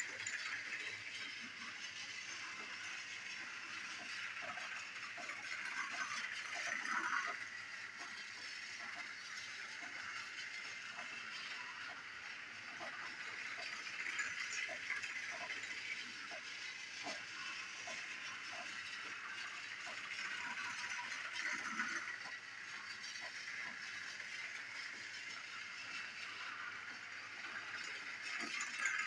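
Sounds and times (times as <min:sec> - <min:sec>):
toy train motor whirring: 0:00.0 - 0:29.0
wheels clicking on track joints: 0:00.0 - 0:29.0.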